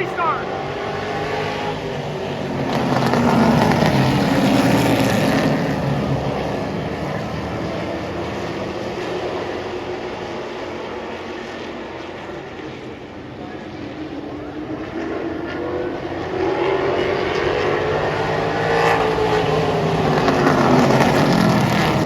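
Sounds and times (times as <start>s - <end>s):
race car engines at full throttle: 0.0s - 22.0s.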